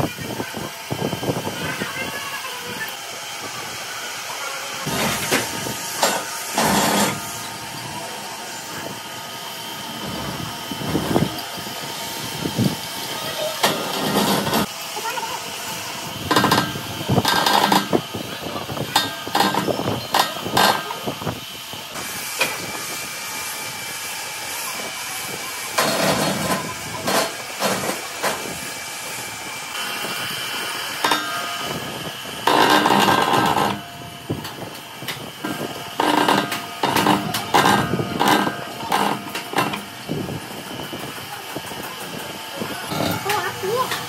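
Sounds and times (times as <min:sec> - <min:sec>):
lathe cutting metal: 0:02.5 - 0:44.0.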